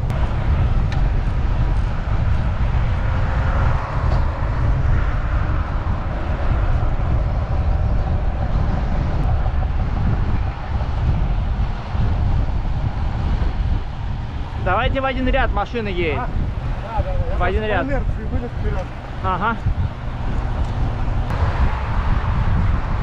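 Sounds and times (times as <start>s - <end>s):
road noise rushing: 0.0s - 23.0s
wind noise on microphone: 0.0s - 23.0s.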